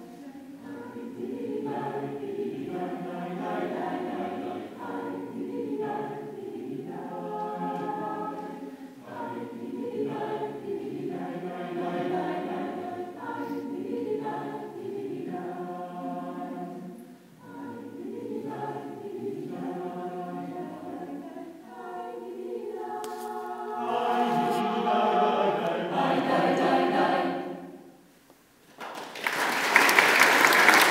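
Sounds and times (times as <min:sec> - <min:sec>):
mixed choir singing: 0:00.0 - 0:28.0.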